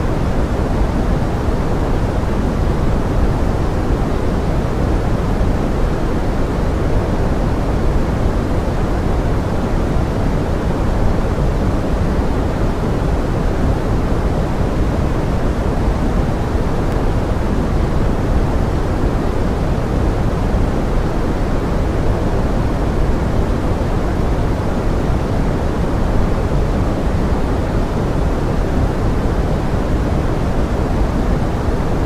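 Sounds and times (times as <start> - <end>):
pink noise: 0.0 - 32.0.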